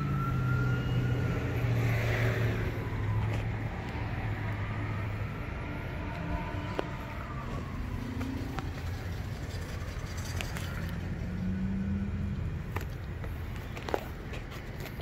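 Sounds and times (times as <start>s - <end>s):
faint engine hum: 0.0s - 15.0s
low rumble of vehicles: 0.0s - 15.0s.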